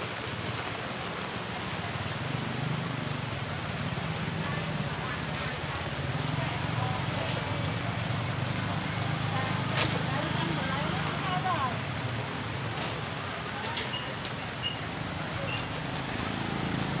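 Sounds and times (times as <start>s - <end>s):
meat grilling over charcoal: 0.0s - 17.0s
background voices: 0.2s - 17.0s.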